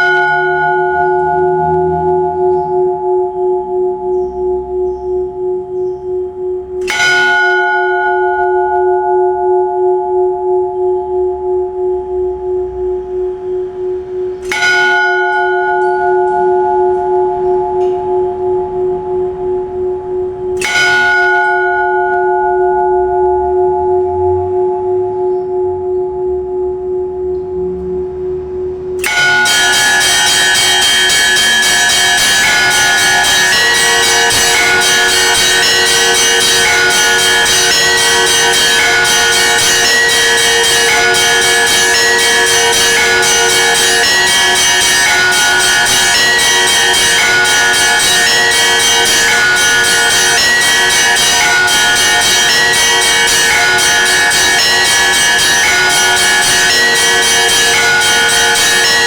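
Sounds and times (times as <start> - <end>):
church bells pealing: 0.0 - 59.0
sustained ringing tone: 0.0 - 59.0.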